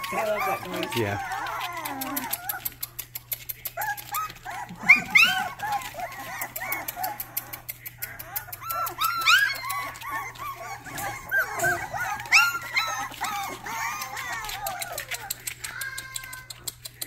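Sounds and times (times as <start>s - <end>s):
puppies yipping and whining: 0.0s - 17.0s.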